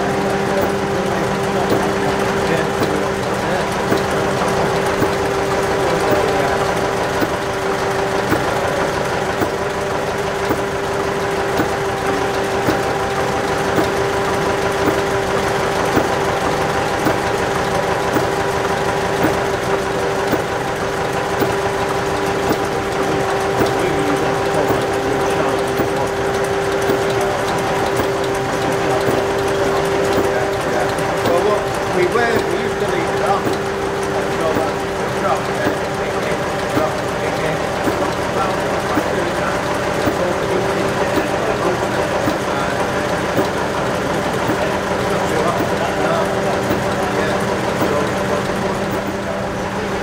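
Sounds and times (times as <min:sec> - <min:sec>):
stationary engine running: 0:00.0 - 0:50.0.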